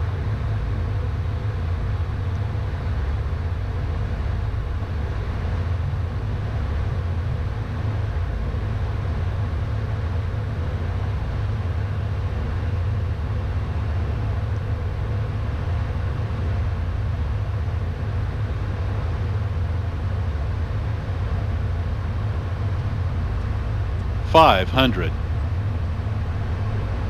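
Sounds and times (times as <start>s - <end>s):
faint steady hum: 0.0s - 27.0s
jet cockpit low rumble: 0.0s - 27.0s.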